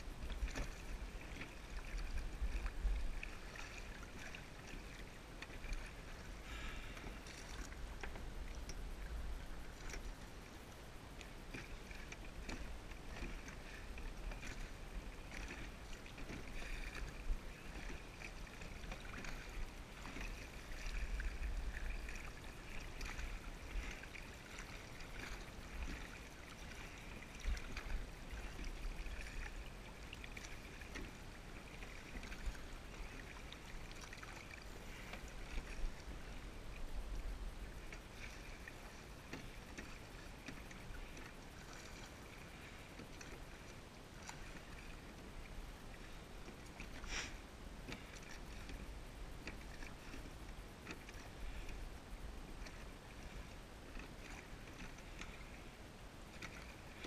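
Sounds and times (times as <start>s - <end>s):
oars splashing in water: 0.0s - 57.0s.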